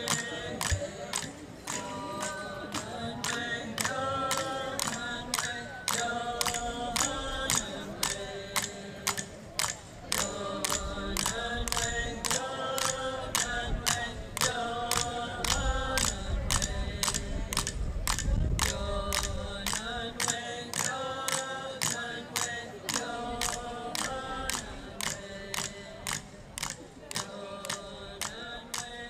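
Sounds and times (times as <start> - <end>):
group chanting in unison: 0.0 - 17.7, 18.6 - 29.0
sharp rhythmic clicks: 0.0 - 29.0.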